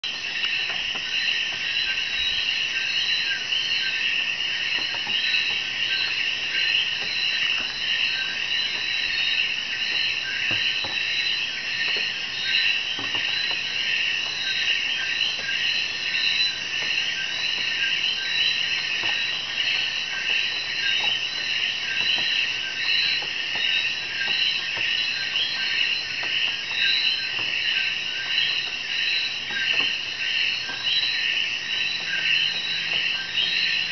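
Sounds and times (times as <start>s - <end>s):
frogs and insects chirping: 0.0s - 33.9s.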